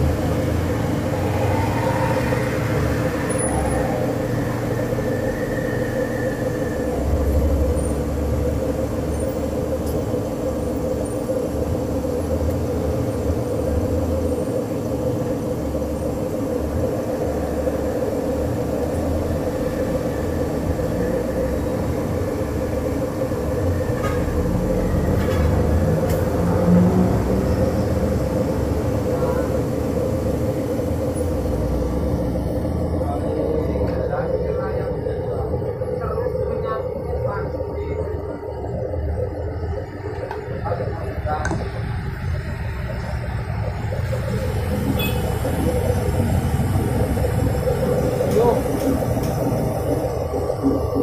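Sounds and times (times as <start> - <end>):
washing machine motor hum: 0.0 - 51.0.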